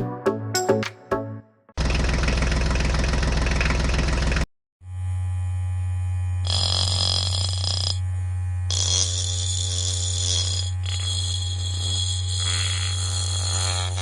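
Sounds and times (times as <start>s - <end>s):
small motor humming: 2.0s - 14.0s.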